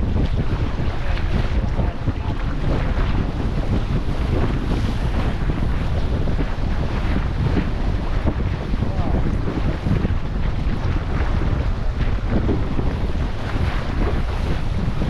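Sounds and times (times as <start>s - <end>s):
water splashing along boat hull: 0.0s - 15.0s
wind buffeting microphone: 0.0s - 15.0s.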